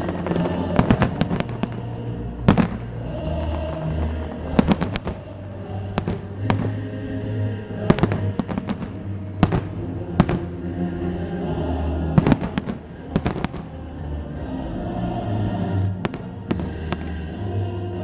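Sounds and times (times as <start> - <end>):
fireworks bangs: 0.0 - 18.0
music playing: 0.0 - 18.0.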